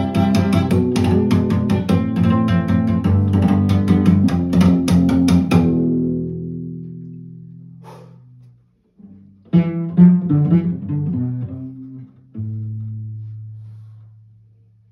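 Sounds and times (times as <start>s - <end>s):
cello plucked notes: 0.0s - 14.6s.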